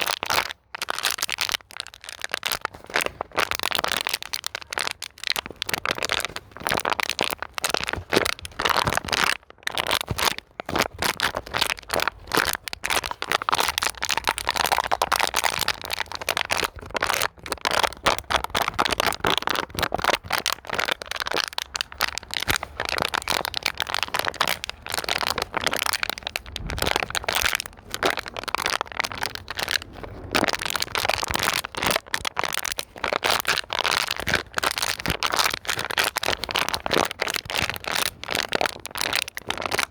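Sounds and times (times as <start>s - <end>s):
plastic bottle crinkling: 0.0s - 39.9s.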